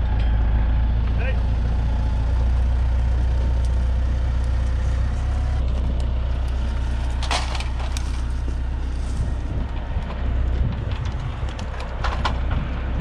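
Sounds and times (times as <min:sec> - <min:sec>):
steady low rumble: 0:00.0 - 0:13.0
wood cracking and splintering: 0:02.3 - 0:13.0.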